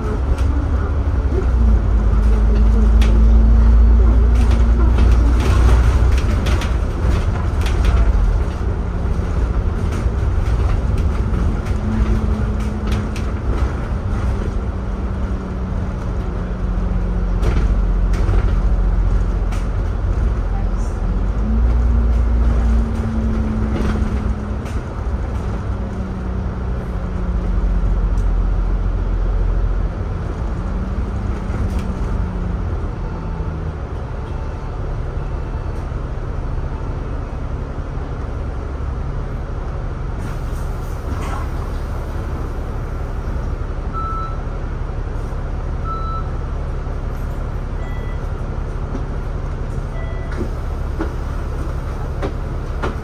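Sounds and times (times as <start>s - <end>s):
bus engine rumble and whine: 0.0s - 53.0s.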